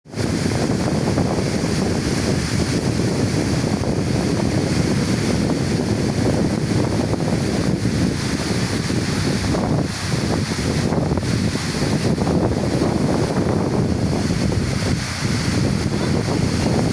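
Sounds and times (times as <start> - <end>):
waterfall rushing: 0.1 - 16.9.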